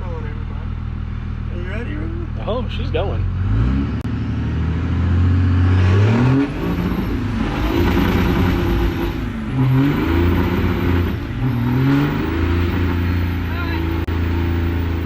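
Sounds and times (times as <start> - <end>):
diesel truck engine accelerating: 0.0 - 15.0.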